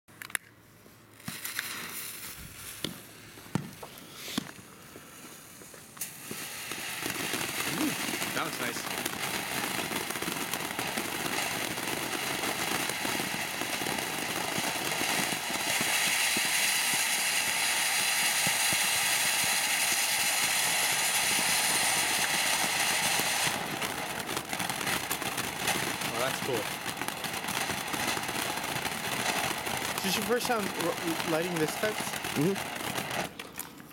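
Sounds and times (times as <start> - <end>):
firework fountain hissing and crackling: 1.2 - 33.6.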